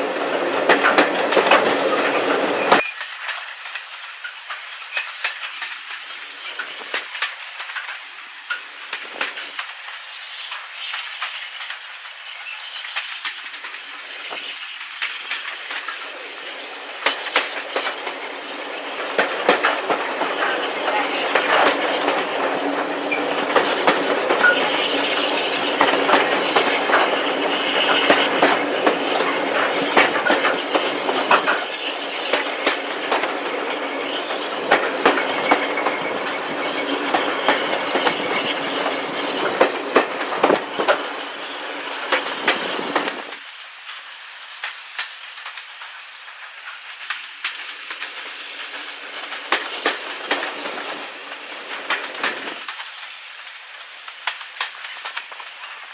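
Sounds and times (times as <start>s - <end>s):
train rumbling along track: 0.0s - 55.9s
wheels clicking over rail joints: 0.0s - 55.9s.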